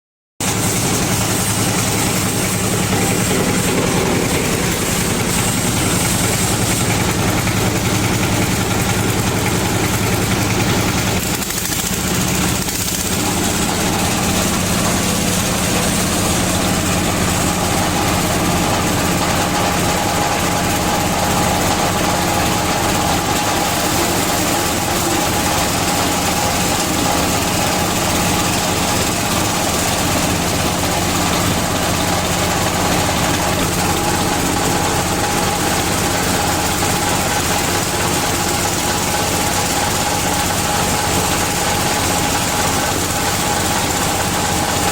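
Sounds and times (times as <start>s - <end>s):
diesel engine driving chopper: 0.4s - 44.9s.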